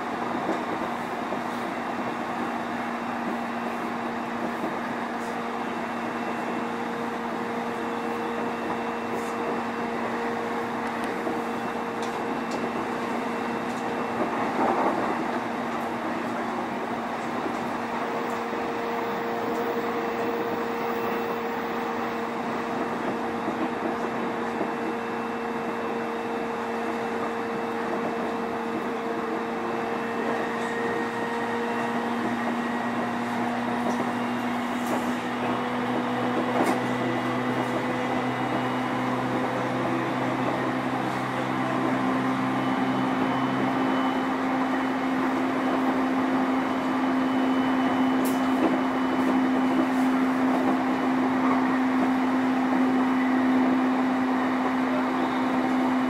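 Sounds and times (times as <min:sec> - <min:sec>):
train motors and wheels humming: 0:00.0 - 0:56.0.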